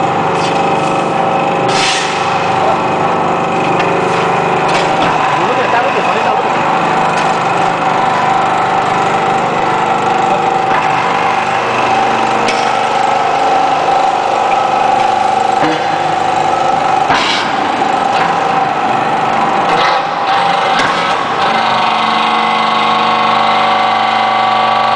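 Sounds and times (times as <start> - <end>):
hydraulic power unit whine: 0.0 - 24.9.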